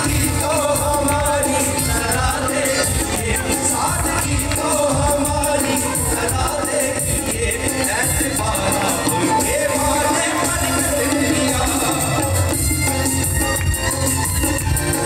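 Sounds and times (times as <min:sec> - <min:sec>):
man singing: 0:00.0 - 0:12.7
hand-drum percussion: 0:00.0 - 0:15.0
keyboard: 0:00.0 - 0:15.0.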